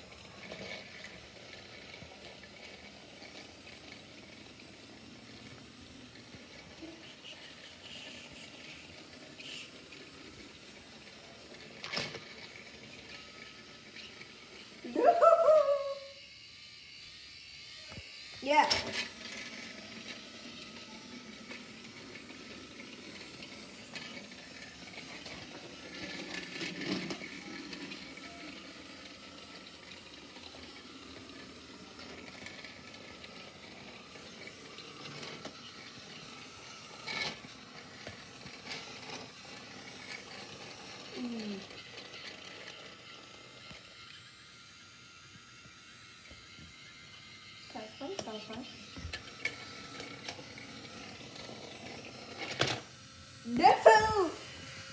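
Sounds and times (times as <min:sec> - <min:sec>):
toy train motor and gears: 0:00.0 - 0:54.9.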